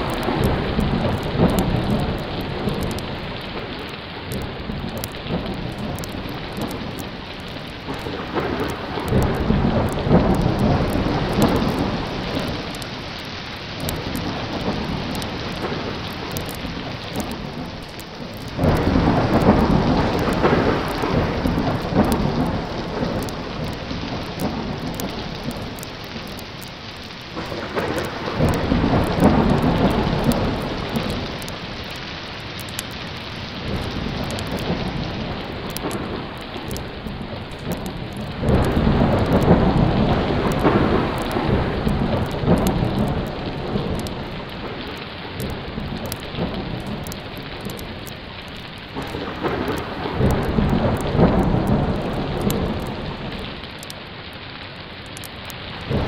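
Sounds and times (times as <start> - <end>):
rolling thunder: 0.0 - 54.1, 55.7 - 56.0
heavy rain: 0.0 - 56.0.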